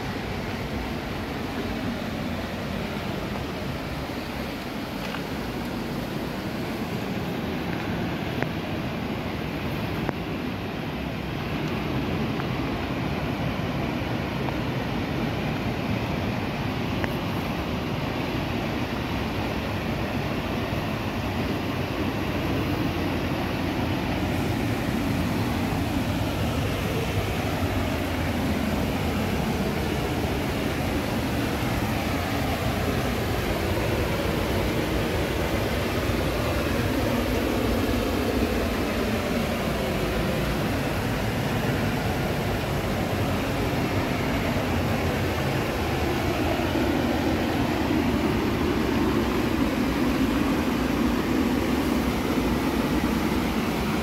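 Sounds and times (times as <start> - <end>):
river water pouring over weir: 0.0 - 54.0.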